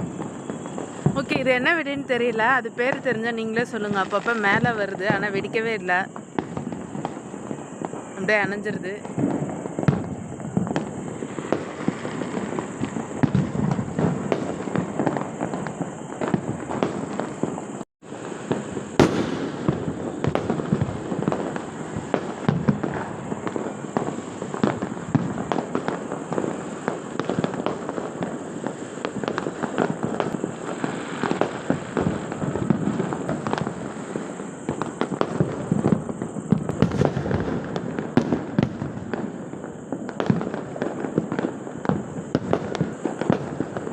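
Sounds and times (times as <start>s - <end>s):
firecrackers and fireworks popping: 0.0s - 43.9s.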